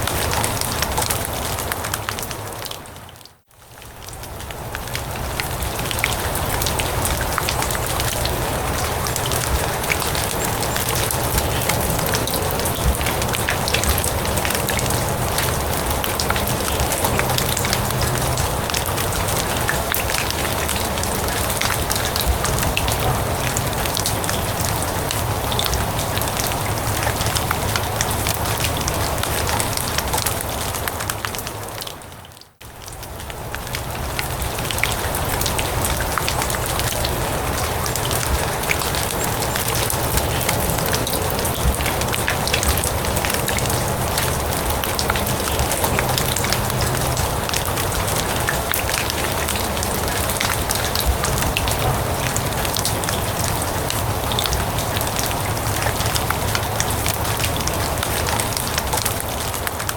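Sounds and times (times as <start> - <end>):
rain on grass and leaves: 0.0 - 59.9.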